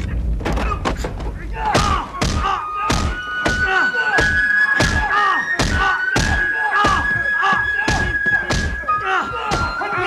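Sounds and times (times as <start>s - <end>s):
heavy blows with wooden sticks: 0.0s - 10.0s.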